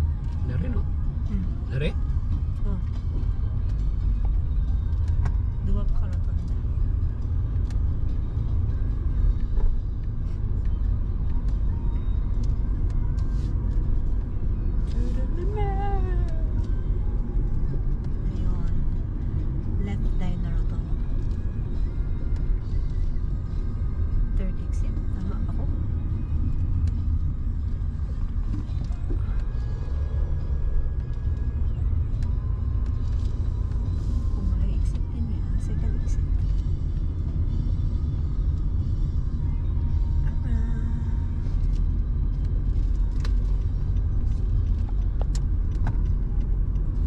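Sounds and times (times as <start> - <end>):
car cabin road rumble: 0.0 - 47.0.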